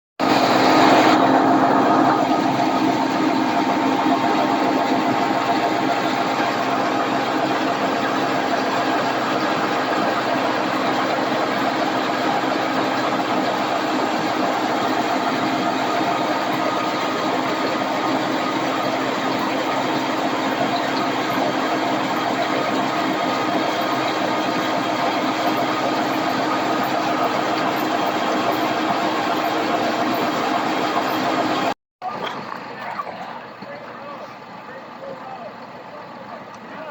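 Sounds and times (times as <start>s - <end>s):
heavy farm machinery running: 0.2s - 36.9s.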